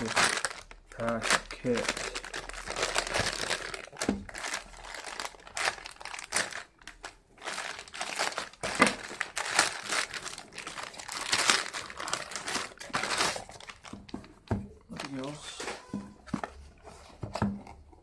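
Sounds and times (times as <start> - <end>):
plastic mailer bag crinkling: 0.0 - 16.0.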